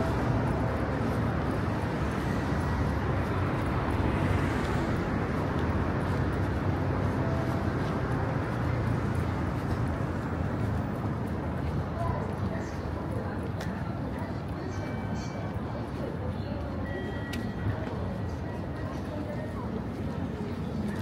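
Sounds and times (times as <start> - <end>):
road traffic: 0.0 - 21.0
urban hum: 0.0 - 21.0.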